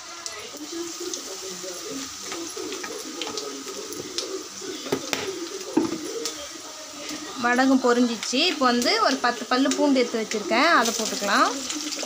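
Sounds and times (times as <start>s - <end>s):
seeds crackling in hot oil: 0.0s - 12.0s
sharp pops of frying: 0.0s - 12.0s.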